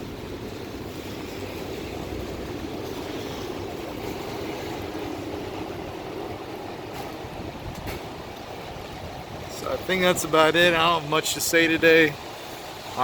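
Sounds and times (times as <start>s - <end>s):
traffic: 0.0s - 13.0s
wet road hiss: 0.0s - 13.0s.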